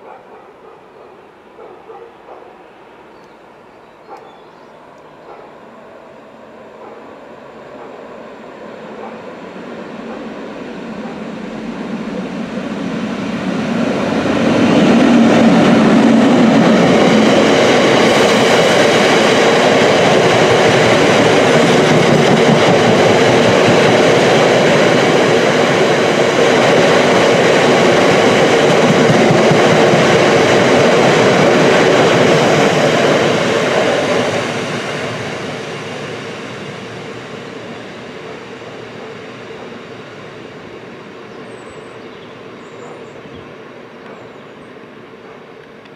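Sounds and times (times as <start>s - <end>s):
diesel locomotive passing: 0.0s - 45.9s.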